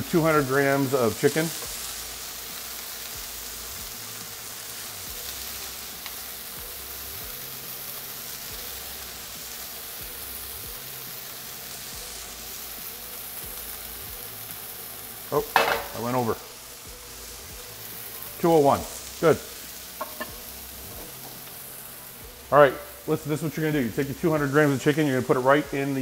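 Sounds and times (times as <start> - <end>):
chicken sizzling in a frying pan: 0.0 - 26.0.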